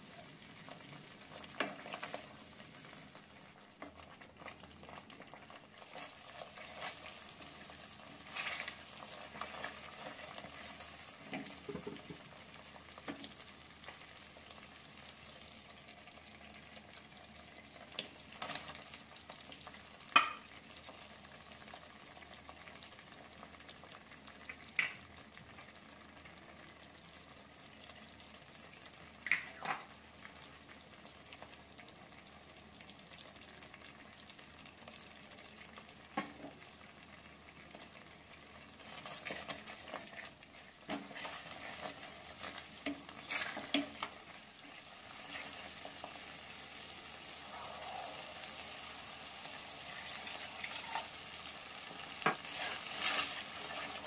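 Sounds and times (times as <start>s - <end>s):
gravy sizzling in a pan: 0.0s - 54.0s.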